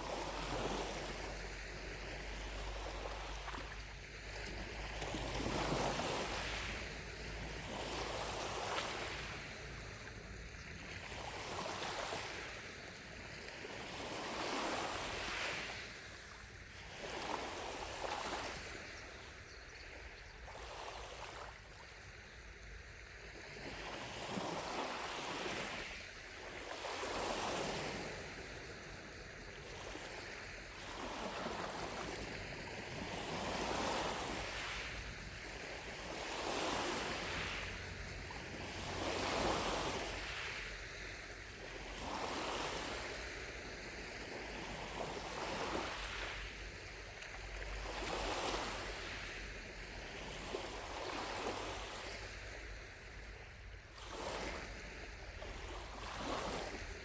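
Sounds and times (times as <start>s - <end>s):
lake waves washing onto shore: 0.0s - 57.0s.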